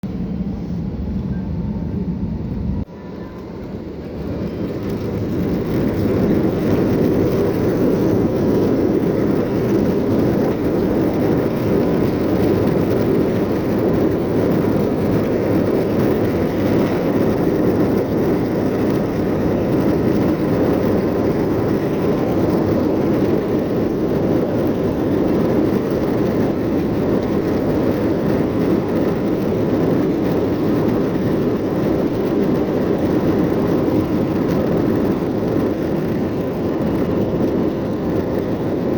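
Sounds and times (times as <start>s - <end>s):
jet engines heard from cabin: 0.0s - 38.9s.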